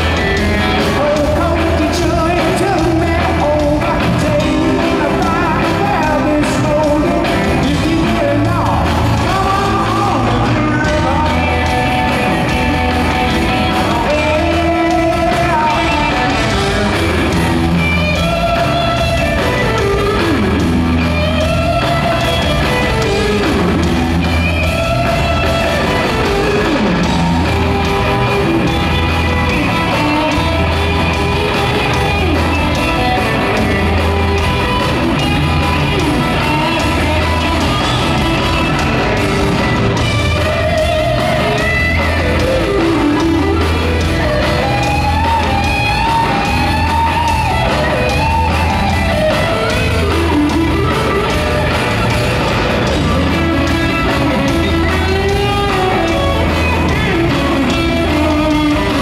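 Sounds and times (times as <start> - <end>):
bass and drums: 0.0 - 59.0
electric guitar lead lines: 0.0 - 59.0.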